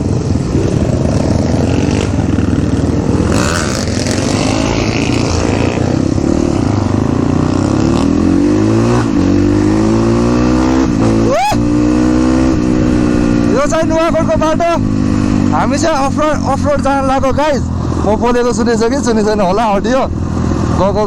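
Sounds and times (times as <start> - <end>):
dirt bike engine accelerating: 0.0 - 18.3.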